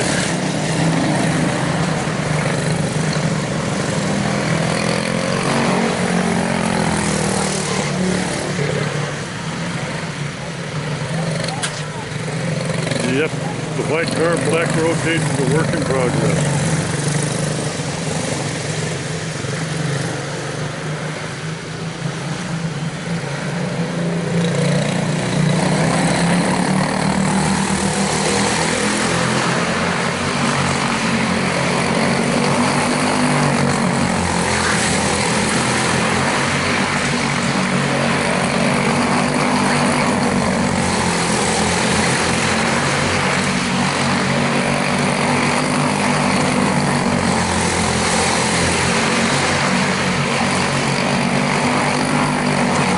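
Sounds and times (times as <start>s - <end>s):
small race car engines lapping: 0.0s - 52.9s.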